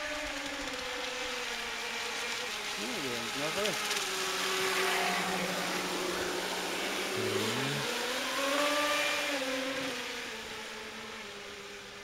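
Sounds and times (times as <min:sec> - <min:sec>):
electric motor whining: 0:00.0 - 0:11.6.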